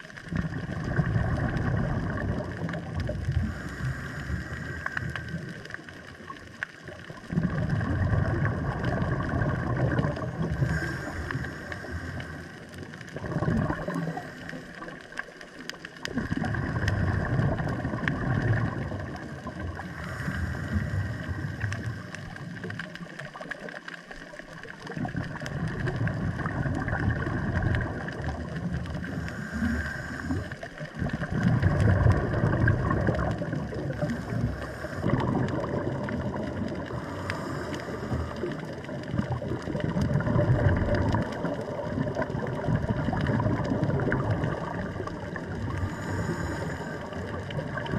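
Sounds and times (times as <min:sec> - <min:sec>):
regulator bubbles bursting: 0:00.0 - 0:47.9
underwater hum: 0:00.0 - 0:47.9.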